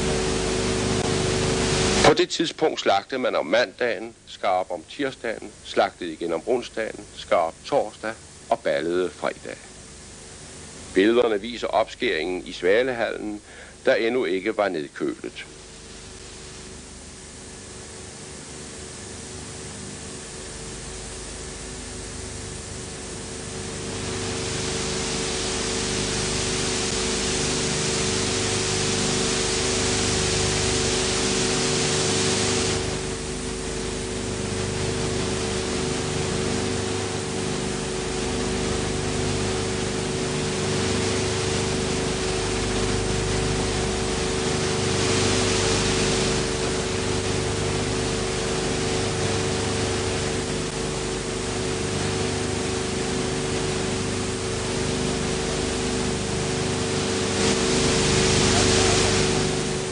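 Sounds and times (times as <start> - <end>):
constant low hum: 0.0 - 59.9
film hiss: 0.0 - 59.9.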